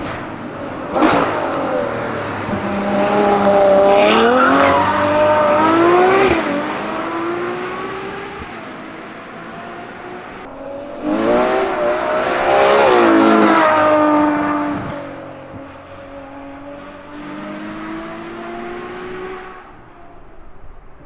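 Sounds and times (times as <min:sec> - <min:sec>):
synthetic engine sound from speakers: 0:00.0 - 0:20.4.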